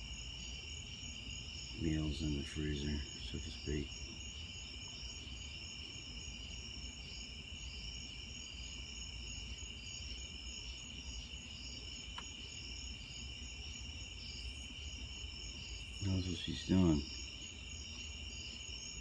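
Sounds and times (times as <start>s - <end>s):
insects trilling: 0.0s - 19.0s
pulsing cricket chirp: 0.0s - 19.0s.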